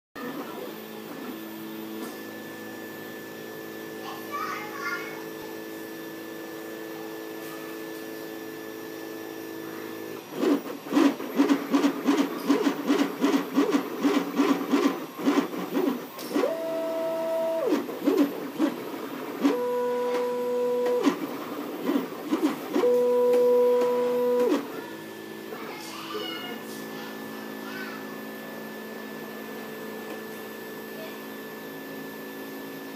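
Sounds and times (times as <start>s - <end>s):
fan-like hum: 0.2s - 32.6s
held gliding motor tones: 0.2s - 32.6s
stepper motors buzzing in bursts: 0.2s - 32.9s.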